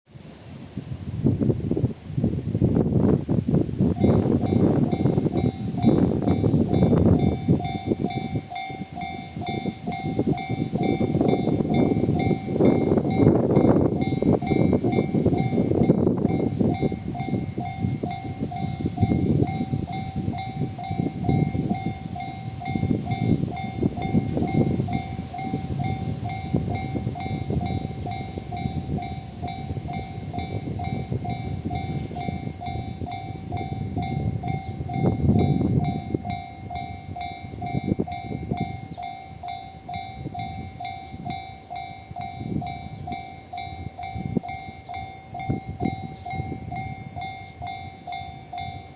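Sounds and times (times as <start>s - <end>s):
crossing alarm pulsing tone: 4.0s - 48.9s.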